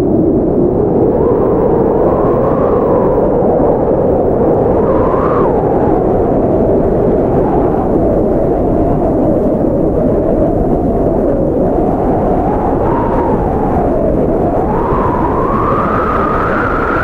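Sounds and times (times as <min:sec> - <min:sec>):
blizzard wind howling: 0:00.0 - 0:17.0.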